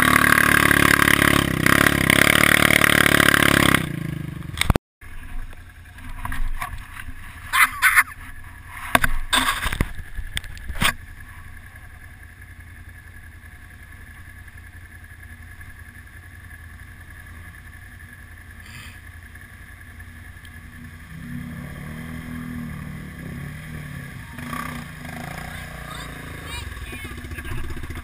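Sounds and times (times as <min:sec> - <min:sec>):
quad bike approaching through water: 0:00.0 - 0:28.0
quad bike engine idling: 0:00.0 - 0:28.0.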